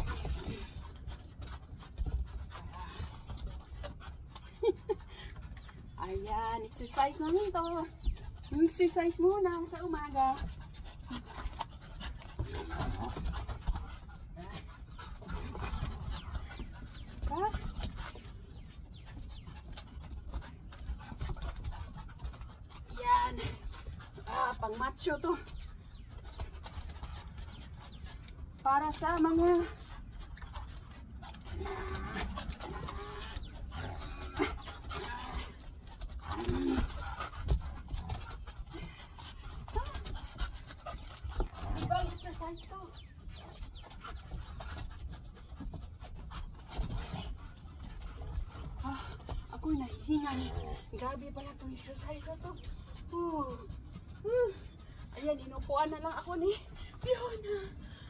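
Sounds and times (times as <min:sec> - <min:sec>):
dogs panting and scuffling: 0:00.0 - 0:58.0.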